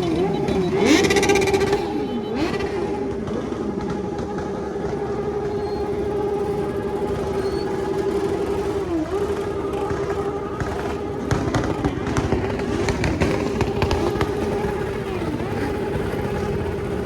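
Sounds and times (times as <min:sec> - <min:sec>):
motorcycle engine at high revs: 0:00.0 - 0:17.0
other engines revving: 0:00.0 - 0:17.0.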